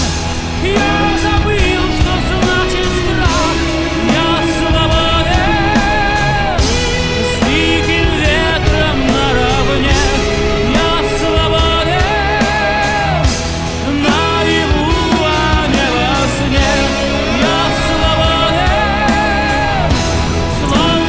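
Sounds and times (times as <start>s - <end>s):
rock song with singing: 0.0s - 21.0s.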